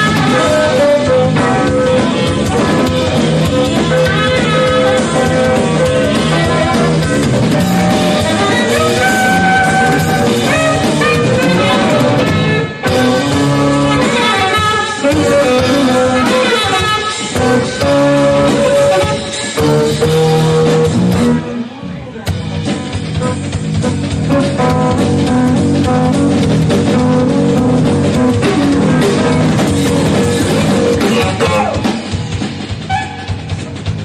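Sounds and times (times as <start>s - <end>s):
electric guitar held notes: 0.0s - 22.4s, 23.2s - 32.0s
busy drum groove: 0.0s - 34.0s
jazz fusion band playing: 0.0s - 34.0s.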